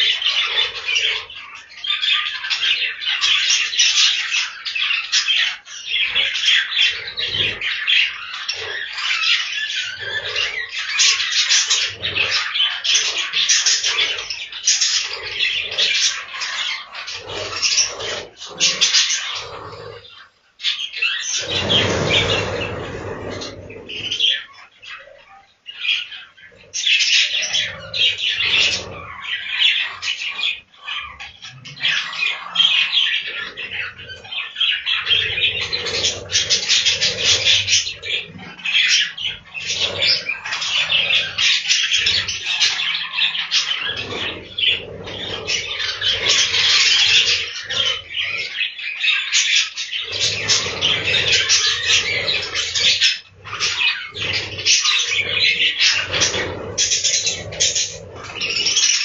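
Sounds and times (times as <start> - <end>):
budgerigars chattering: 0.0 - 59.0.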